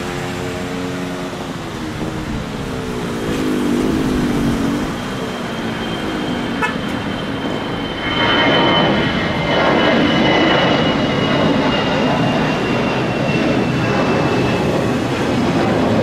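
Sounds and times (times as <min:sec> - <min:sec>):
jet engines droning: 0:00.0 - 0:16.0.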